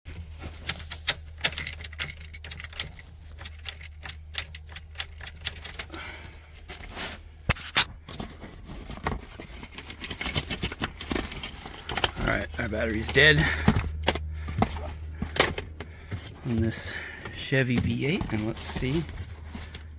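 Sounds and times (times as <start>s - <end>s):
hard objects clicking and clattering: 0.1s - 19.9s
steady low hum: 0.1s - 19.9s.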